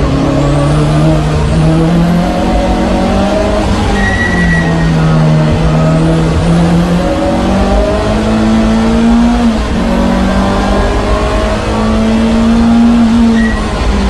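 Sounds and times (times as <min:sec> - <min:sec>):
race car engine accelerating: 0:00.0 - 0:14.0.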